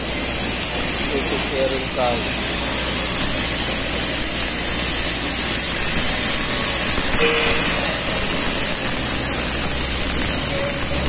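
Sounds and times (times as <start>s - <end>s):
welding arc sizzling: 0.0s - 11.0s.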